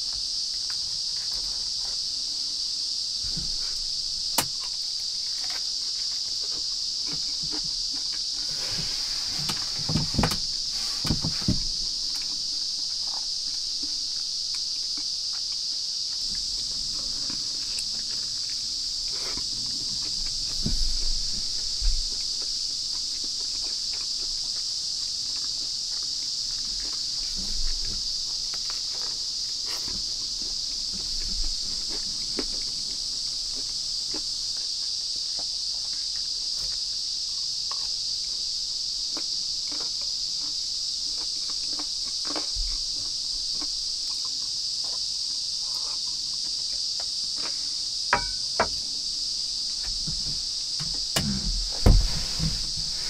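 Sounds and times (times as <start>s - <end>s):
insect chorus drone: 0.0s - 53.0s.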